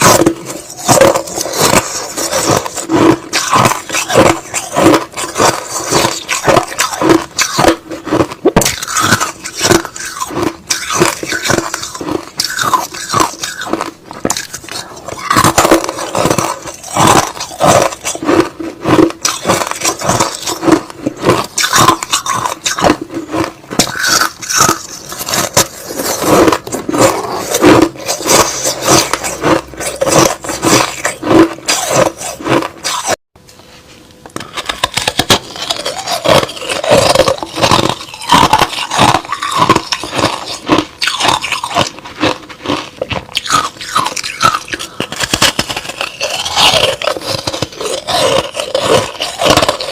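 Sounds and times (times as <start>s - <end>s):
person chewing crushed ice: 0.0s - 33.2s, 33.8s - 49.9s.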